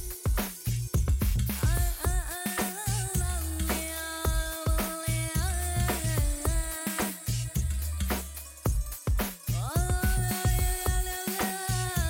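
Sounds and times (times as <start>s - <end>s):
upbeat film song music: 0.0s - 12.0s.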